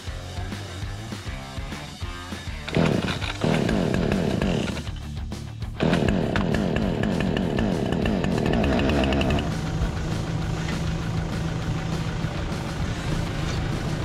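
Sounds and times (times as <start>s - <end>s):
chainsaw engine revving and idling: 0.1s - 14.0s.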